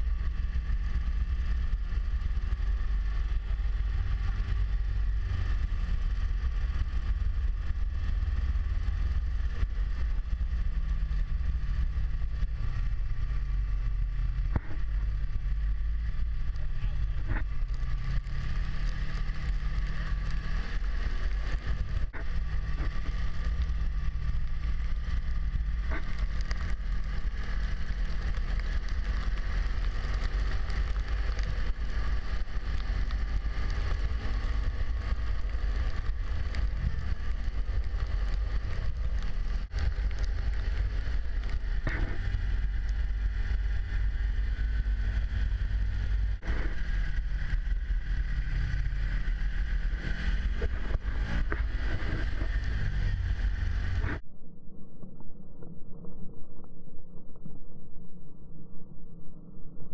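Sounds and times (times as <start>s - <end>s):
snowmobile engine running: 0.0s - 54.2s.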